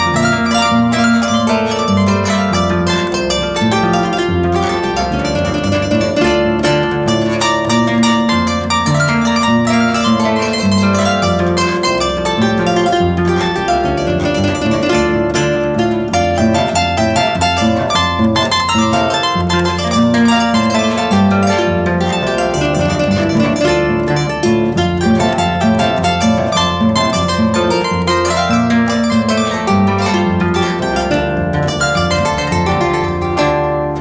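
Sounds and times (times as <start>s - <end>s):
plucked string music: 0.0s - 34.0s.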